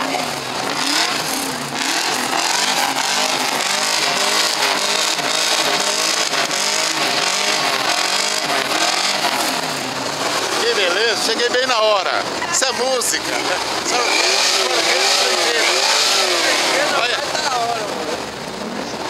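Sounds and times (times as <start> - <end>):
engines revving: 0.0 - 19.0.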